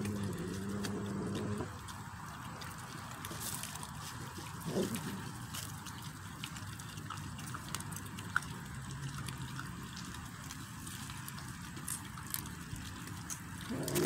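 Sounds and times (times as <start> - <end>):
puppies chewing and tearing meat: 0.0 - 14.0.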